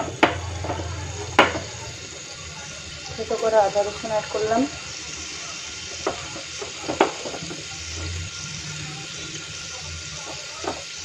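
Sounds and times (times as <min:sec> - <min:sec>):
garlic and ginger sizzling in oil: 0:00.0 - 0:11.0
sharp oil crackles: 0:00.0 - 0:11.0.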